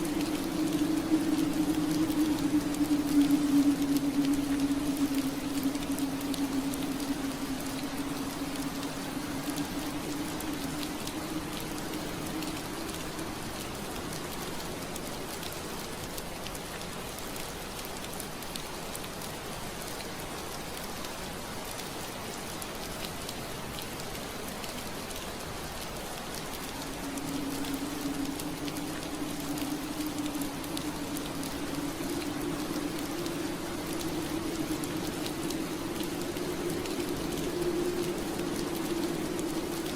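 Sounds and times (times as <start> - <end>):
rain pattering on window glass: 0.0 - 39.9.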